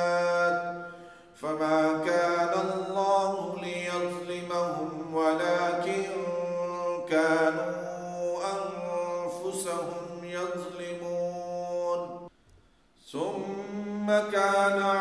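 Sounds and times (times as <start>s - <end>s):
man chanting melodically: 0.0s - 12.3s, 13.0s - 15.0s.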